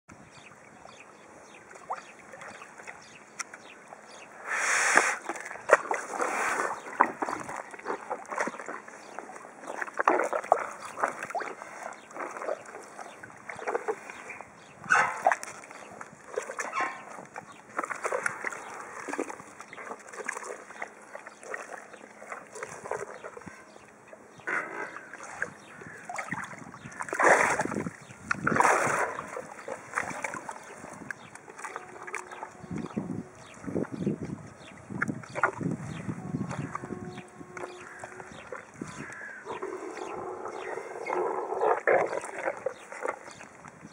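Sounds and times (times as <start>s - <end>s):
water splashing and sloshing: 0.1s - 43.9s.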